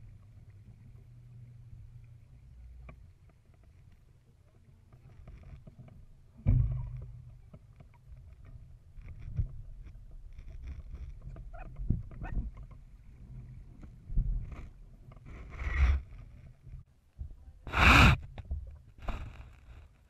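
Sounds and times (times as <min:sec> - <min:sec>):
rumble of wind and water: 0:00.0 - 0:20.0.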